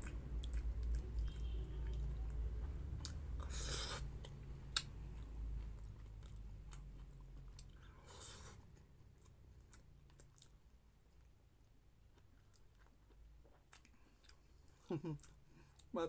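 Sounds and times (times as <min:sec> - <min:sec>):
person chewing: 0:00.0 - 0:11.3, 0:12.0 - 0:16.0.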